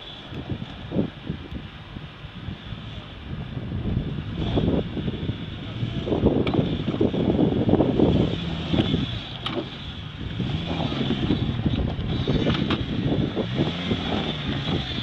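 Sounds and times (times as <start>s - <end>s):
car engine at low revs: 0.0s - 15.0s
wind buffeting microphone: 0.2s - 15.0s.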